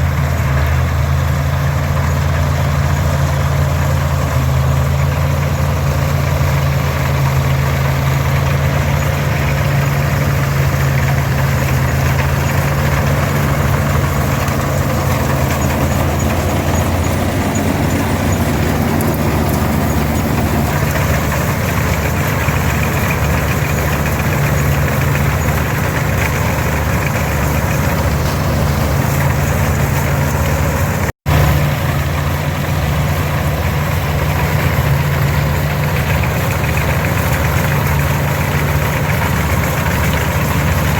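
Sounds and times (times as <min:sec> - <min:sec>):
combine machinery noise: 0:00.0 - 0:40.9
diesel tractor engine running: 0:00.0 - 0:40.9.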